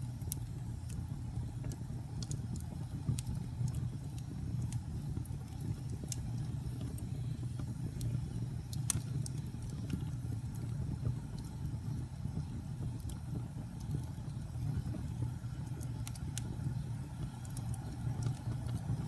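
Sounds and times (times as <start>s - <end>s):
fire crackles and pops: 0.0s - 19.0s
low roar of flames: 0.0s - 19.0s.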